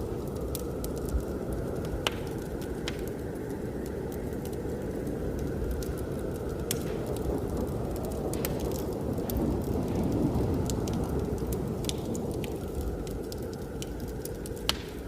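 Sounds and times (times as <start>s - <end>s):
blizzard wind rushing: 0.0s - 15.0s
wood fire crackling and popping: 0.0s - 15.0s.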